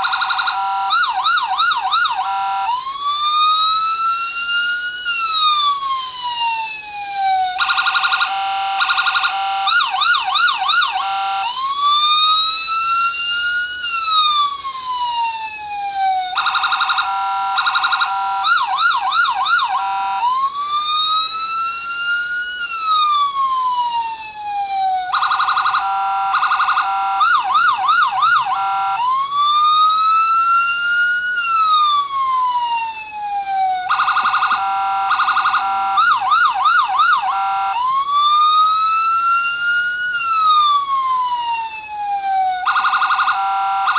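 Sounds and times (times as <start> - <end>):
electronic police siren: 0.0 - 43.9.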